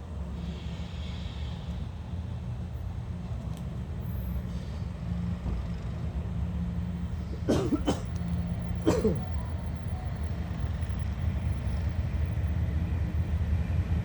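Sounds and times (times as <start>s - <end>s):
diesel locomotive engine droning: 0.0s - 14.0s.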